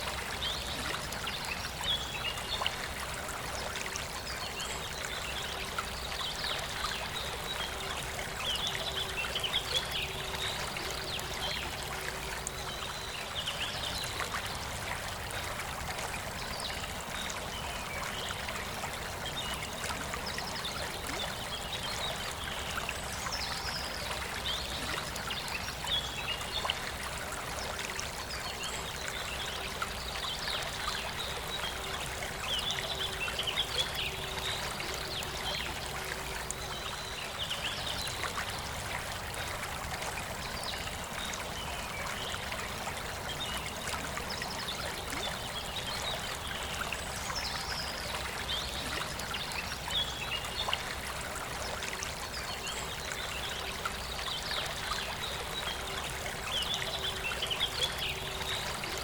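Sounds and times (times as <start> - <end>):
river water over rocks: 0.0 - 59.0.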